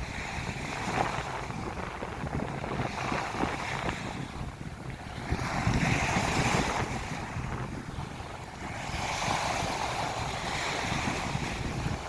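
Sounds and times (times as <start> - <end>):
ocean waves washing onto beach: 0.0 - 12.0
wind buffeting microphone: 0.0 - 12.0.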